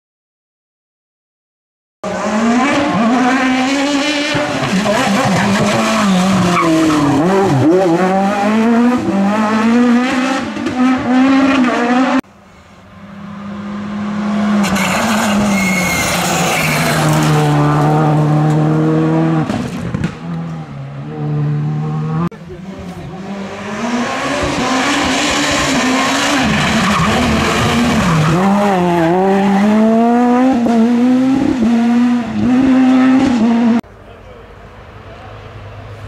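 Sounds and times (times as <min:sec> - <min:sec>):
rally car engine revving: 0:02.0 - 0:12.3, 0:13.1 - 0:33.8
rally car passing by: 0:02.0 - 0:33.8.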